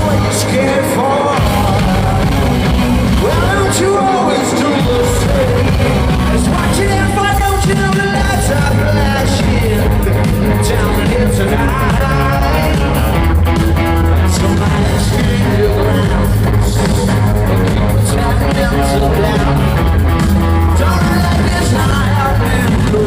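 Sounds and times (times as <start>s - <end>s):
rock music with singing: 0.0s - 23.0s.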